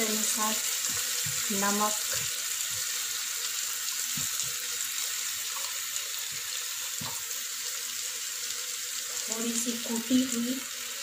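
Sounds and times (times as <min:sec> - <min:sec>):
rice frying sizzling hiss: 0:00.0 - 0:11.0.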